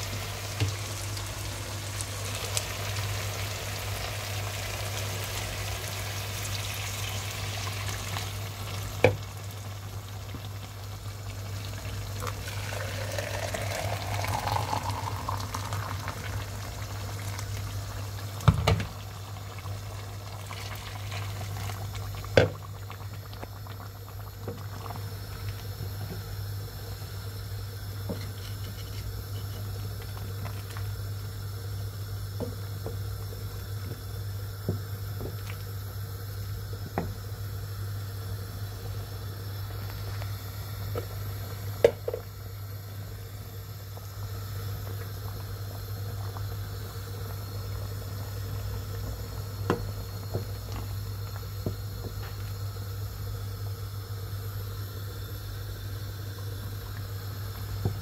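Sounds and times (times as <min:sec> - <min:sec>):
broth boiling in pot: 0:00.0 - 0:58.0
steady low hum: 0:00.0 - 0:58.0.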